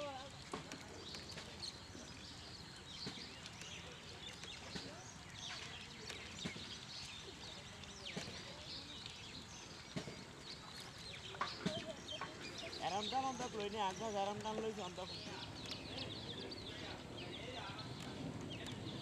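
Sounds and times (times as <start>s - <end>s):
bird chirps and calls: 1.0s - 19.0s.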